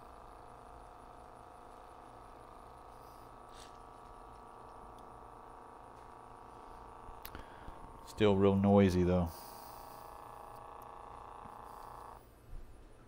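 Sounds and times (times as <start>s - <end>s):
cassette motor whining: 0.0s - 12.4s.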